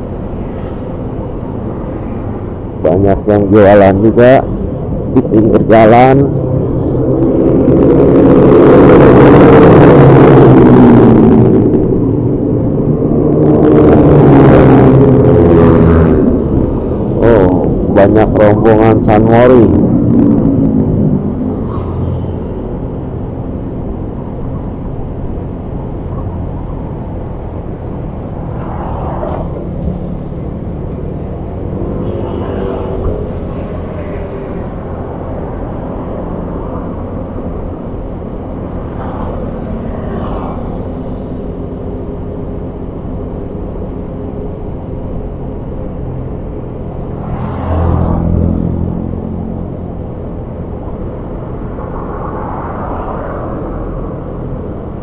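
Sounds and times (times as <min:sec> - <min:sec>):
passing vehicle rush: 0:00.0 - 0:55.0
wind on microphone: 0:04.4 - 0:55.0.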